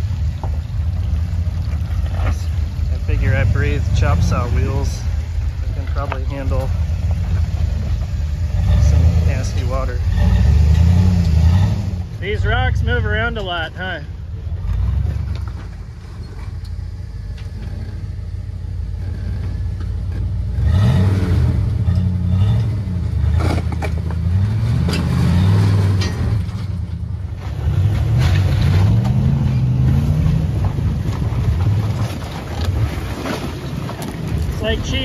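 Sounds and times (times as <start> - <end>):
engine revving: 1.2 - 13.4, 17.4 - 35.0.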